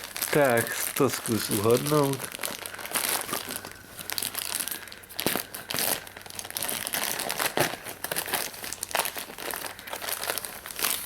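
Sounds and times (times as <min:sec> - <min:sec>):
wrapping paper crinkling and tearing: 0:00.0 - 0:11.0.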